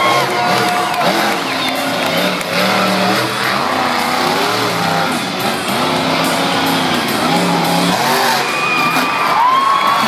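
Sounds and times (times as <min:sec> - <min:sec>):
monster truck engines revving: 0:00.0 - 0:10.0.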